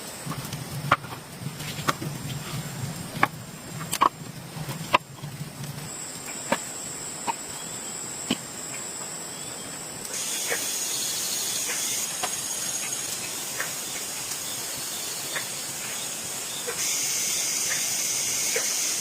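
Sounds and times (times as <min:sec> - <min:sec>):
low hum: 0:00.0 - 0:19.0
high-pitched insect drone: 0:03.5 - 0:19.0.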